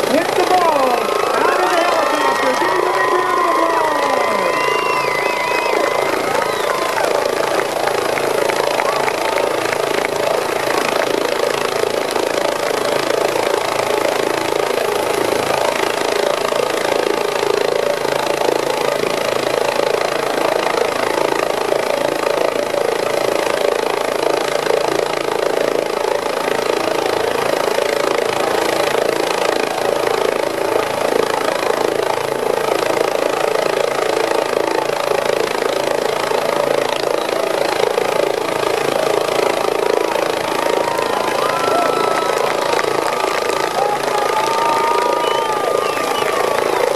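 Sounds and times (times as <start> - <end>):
helicopter idling: 0.0 - 46.9.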